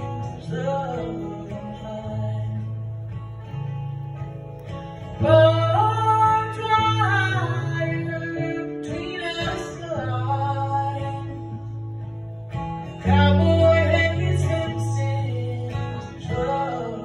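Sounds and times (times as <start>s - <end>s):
woman singing: 0.0s - 3.0s, 5.1s - 12.0s, 13.0s - 17.0s
acoustic guitar: 0.0s - 17.0s.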